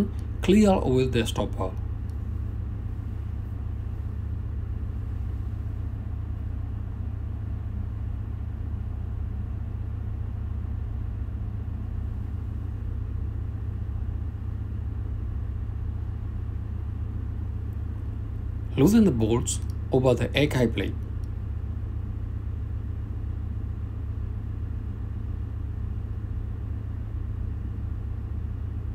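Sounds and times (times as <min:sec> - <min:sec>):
engine-room machinery humming: 0:00.0 - 0:28.9.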